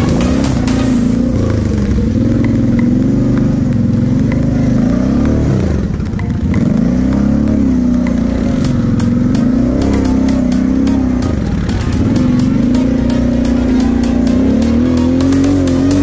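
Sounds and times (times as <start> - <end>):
quad engine revving: 0.0 - 16.0.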